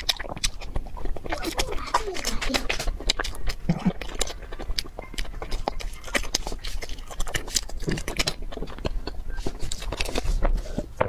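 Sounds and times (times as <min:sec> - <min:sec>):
wet chewing and mouth clicks: 0:00.0 - 0:11.0.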